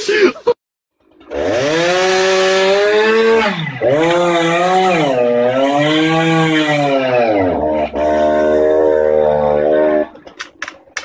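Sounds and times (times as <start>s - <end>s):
chainsaw running at high revs: 1.1s - 10.2s.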